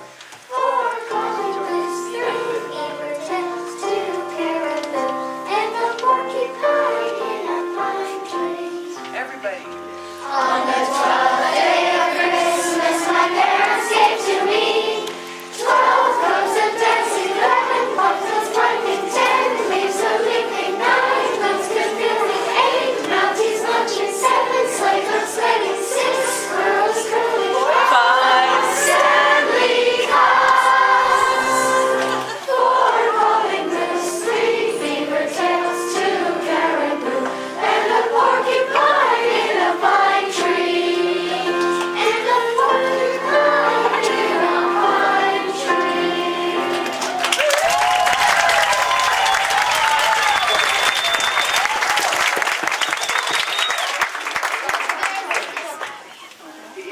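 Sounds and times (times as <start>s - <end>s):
children singing in chorus: 0.0s - 9.0s, 10.2s - 47.2s.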